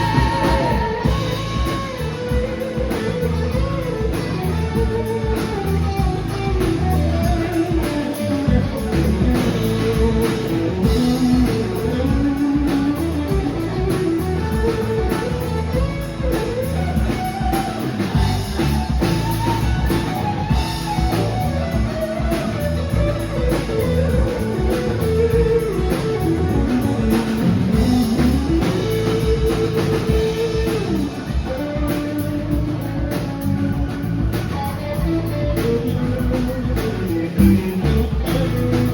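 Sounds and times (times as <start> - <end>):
bass guitar: 0.0 - 38.9
drum kit: 0.0 - 38.9
electric guitar lead: 0.0 - 38.9.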